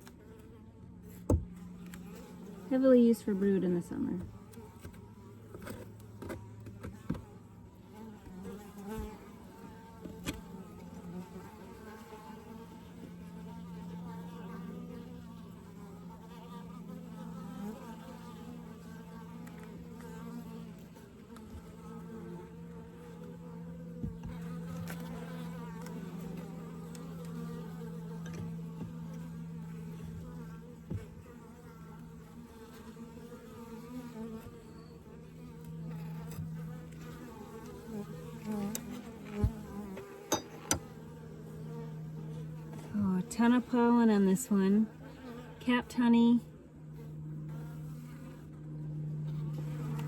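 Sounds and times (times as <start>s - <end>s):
honeybees buzzing: 0.0s - 50.0s.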